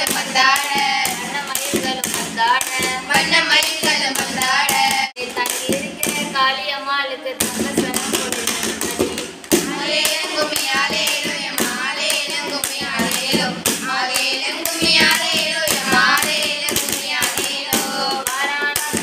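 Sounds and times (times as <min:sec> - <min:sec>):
hand claps: 0:00.0 - 0:06.3, 0:07.4 - 0:19.0
girls singing folk song: 0:00.0 - 0:19.0.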